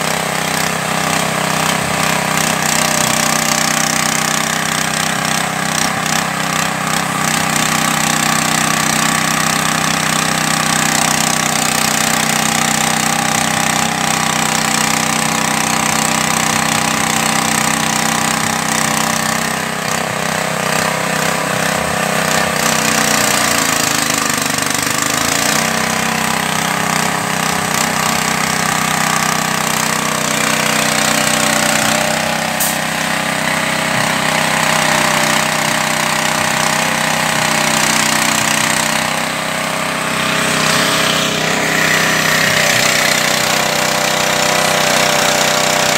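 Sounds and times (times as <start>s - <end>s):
small engine running: 0.0s - 45.9s.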